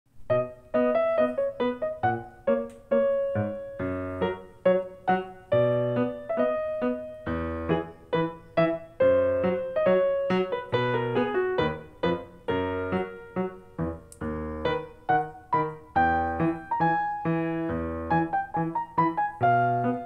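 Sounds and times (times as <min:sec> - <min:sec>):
piano music: 0:00.1 - 0:20.0.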